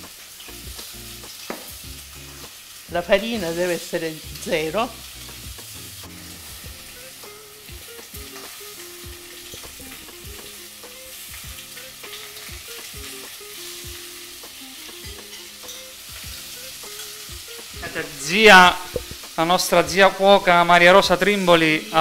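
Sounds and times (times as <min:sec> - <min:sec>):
meat sizzling in fat: 0:00.0 - 0:22.0.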